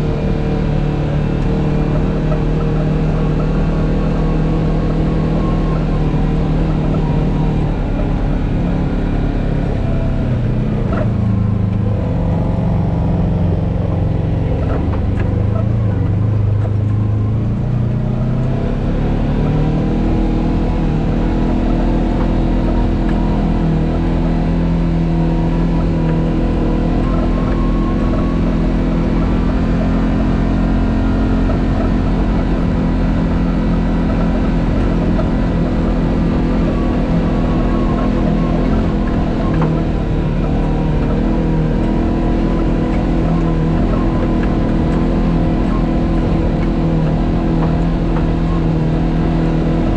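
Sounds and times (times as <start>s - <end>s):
off-road vehicle engine under load: 0.0s - 49.9s.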